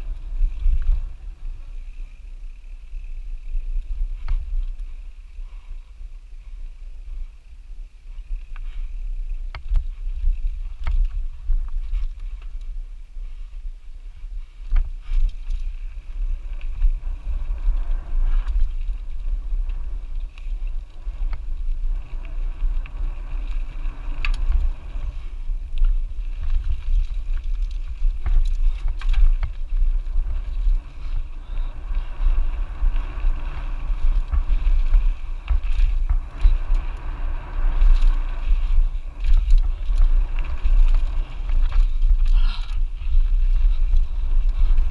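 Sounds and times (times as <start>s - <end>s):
bike knocking and rattling: 0.0s - 5.2s, 8.1s - 44.9s
bike tyre noise on dirt: 0.0s - 44.9s
wind rumble on microphone: 0.0s - 44.9s.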